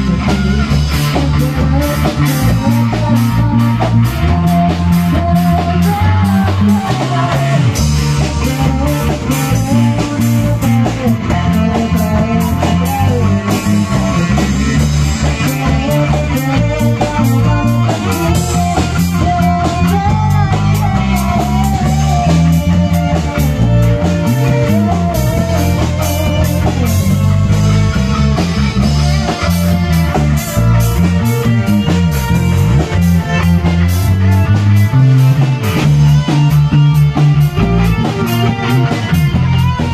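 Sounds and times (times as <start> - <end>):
bass guitar: 0.0 - 39.9
drum kit: 0.0 - 39.9
electric guitar lead: 0.0 - 39.9.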